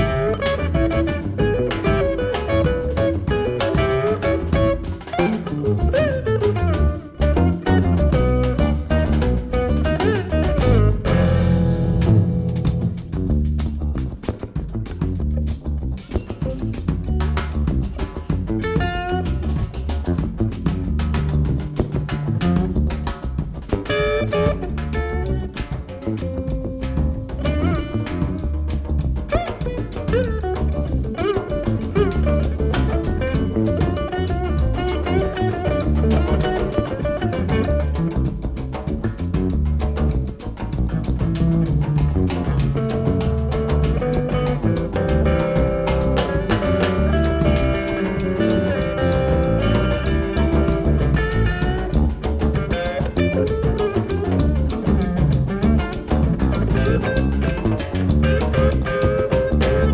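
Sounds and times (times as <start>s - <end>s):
bass line: 0.0s - 59.9s
drum kit: 0.0s - 59.9s
guitar with bent sliding notes: 0.0s - 59.9s.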